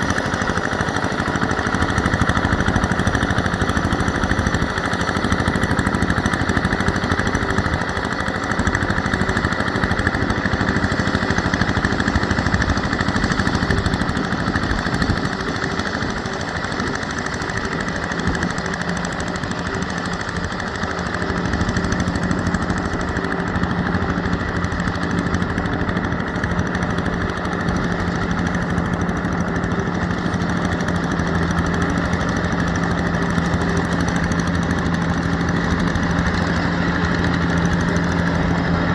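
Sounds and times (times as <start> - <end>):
tractor diesel engine clattering: 0.0 - 38.9.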